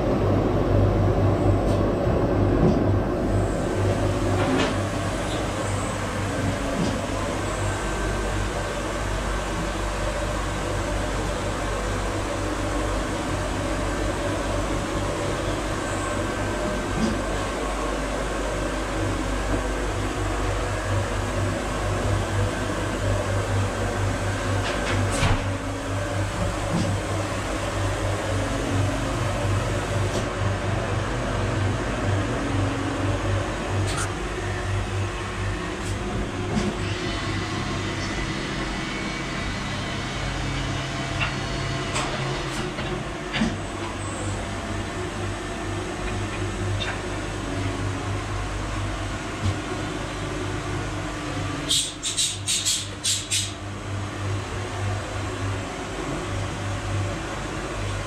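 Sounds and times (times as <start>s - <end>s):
machinery mechanical hum: 0.0s - 58.0s.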